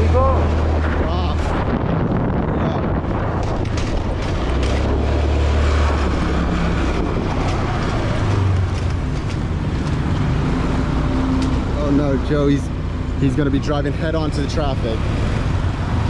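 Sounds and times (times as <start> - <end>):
street traffic: 0.0 - 16.0
wind rushing over microphone: 0.0 - 16.0.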